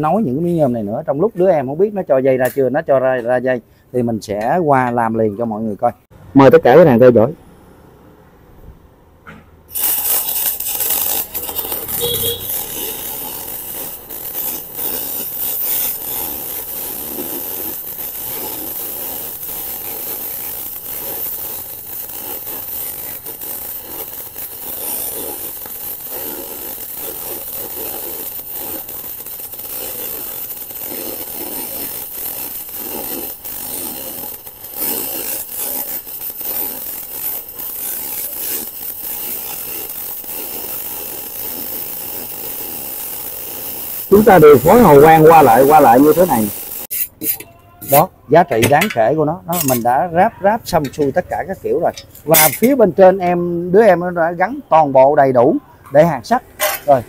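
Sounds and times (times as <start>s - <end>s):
welding arc crackling: 9.7s - 57.0s.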